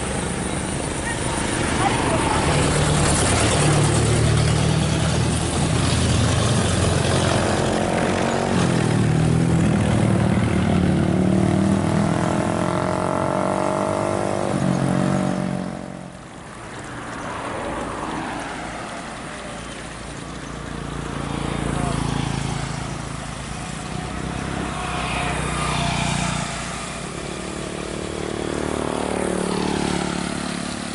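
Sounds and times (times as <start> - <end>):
bus diesel engine passing: 0.0 - 30.9
traffic rumble: 0.0 - 30.9.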